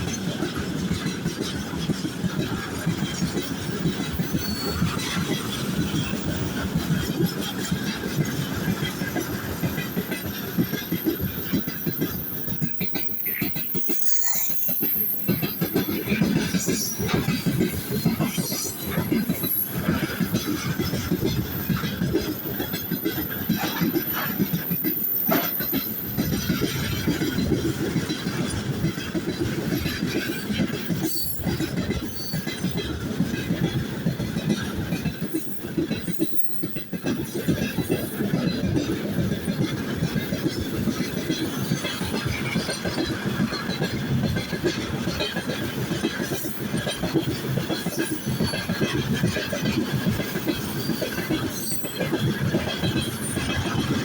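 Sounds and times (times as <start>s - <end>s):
train wheels clattering: 0.0s - 54.0s.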